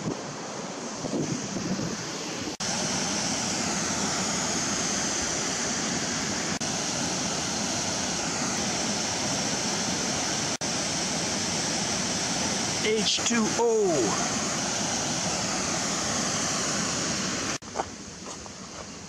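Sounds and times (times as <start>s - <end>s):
waterfall rushing: 0.0s - 17.6s.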